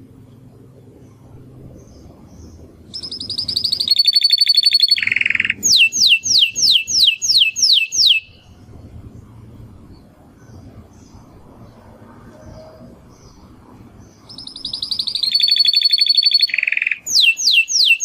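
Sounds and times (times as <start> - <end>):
canary singing trills: 0.0 - 8.7, 9.9 - 18.0.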